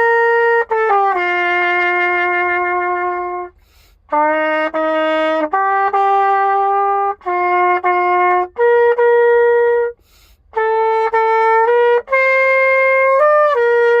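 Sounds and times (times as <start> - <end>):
solo trumpet slow melody: 0.0 - 14.0.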